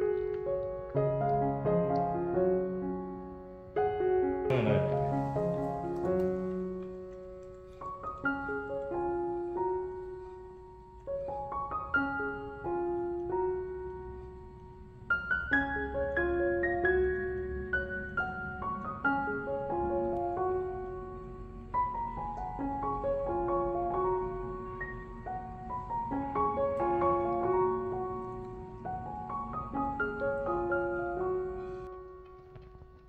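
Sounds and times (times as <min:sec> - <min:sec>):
piano melody: 0:00.0 - 0:33.0.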